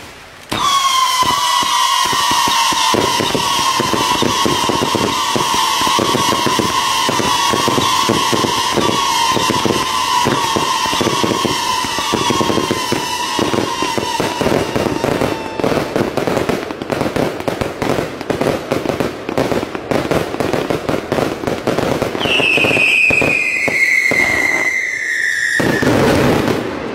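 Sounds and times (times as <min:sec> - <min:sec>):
falling firework whistle: 0:00.0 - 0:16.8, 0:22.1 - 0:26.9
fireworks bangs and crackles: 0:00.0 - 0:26.9.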